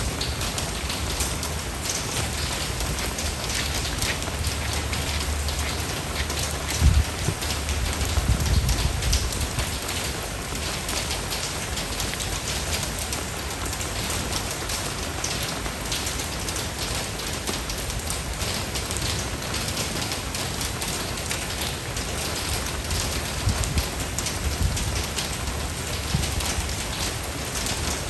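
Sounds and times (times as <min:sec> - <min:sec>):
rain pattering on a surface: 0:00.0 - 0:28.0.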